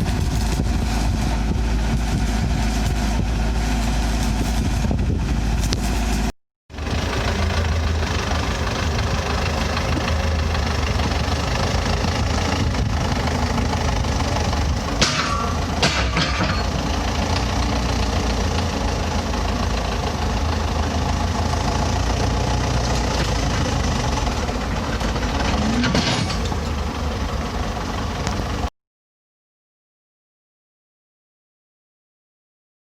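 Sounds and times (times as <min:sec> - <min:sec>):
heavy machinery engine running: 0:00.0 - 0:28.7.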